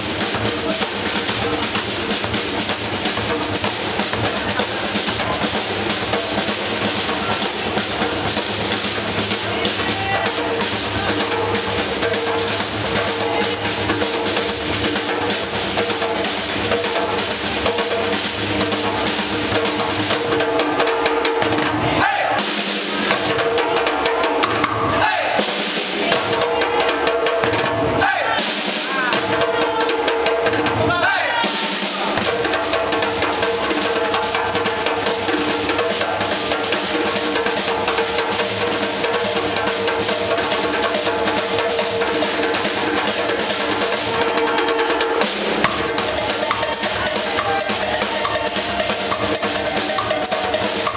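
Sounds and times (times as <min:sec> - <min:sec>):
percussion ensemble drumming: 0:00.0 - 0:50.9.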